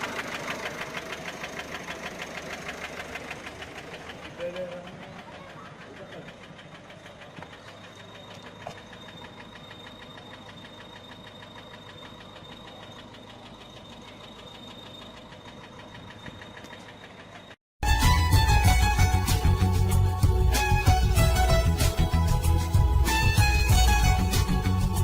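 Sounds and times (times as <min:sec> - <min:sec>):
diesel engine idling with ticking knock: 0:00.0 - 0:25.0.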